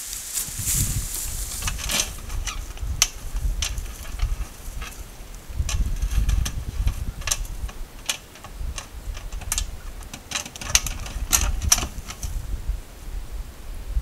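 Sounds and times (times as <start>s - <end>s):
bear footsteps in frosty grass: 0.0s - 12.8s
low uneven rumble: 0.0s - 14.0s.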